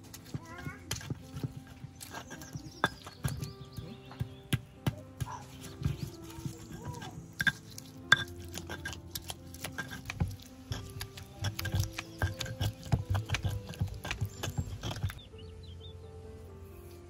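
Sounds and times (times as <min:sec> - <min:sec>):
stone pestle grinding in mortar: 0:00.0 - 0:15.3.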